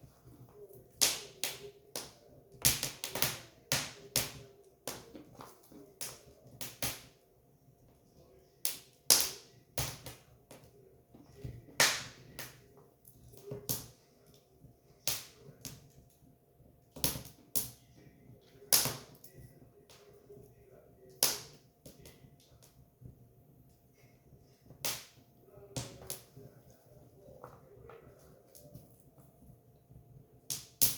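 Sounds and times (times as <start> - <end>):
firewood crackling and popping: 0.0 - 7.3, 8.6 - 16.1, 16.9 - 23.2, 23.9 - 30.9.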